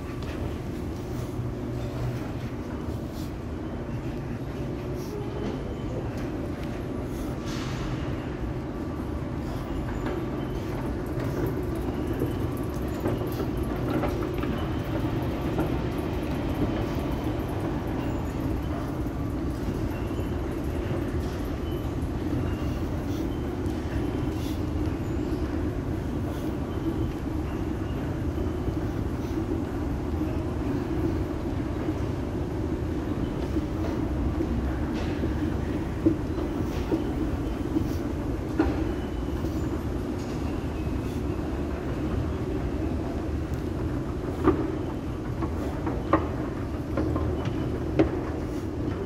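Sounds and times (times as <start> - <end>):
escalators running: 0.0 - 49.0
machinery rumble and hum: 0.0 - 49.0.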